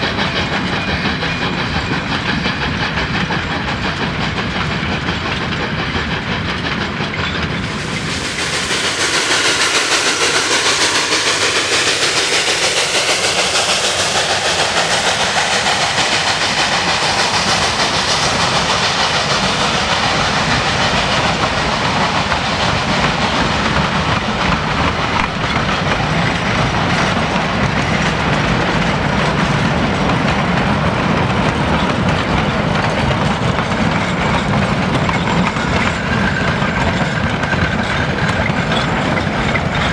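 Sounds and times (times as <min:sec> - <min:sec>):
steam locomotive hissing: 0:00.0 - 0:39.9
train rumbling on rails: 0:00.0 - 0:39.9.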